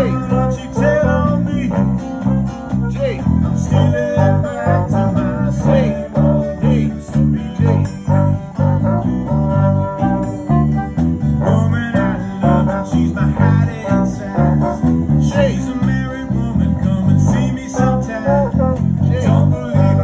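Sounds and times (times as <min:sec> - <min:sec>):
saxophone: 0:00.0 - 0:16.0, 0:17.3 - 0:20.0
trombone: 0:00.0 - 0:16.2, 0:17.2 - 0:20.0
bass line: 0:00.0 - 0:20.0
electric and acoustic guitars: 0:00.0 - 0:20.0.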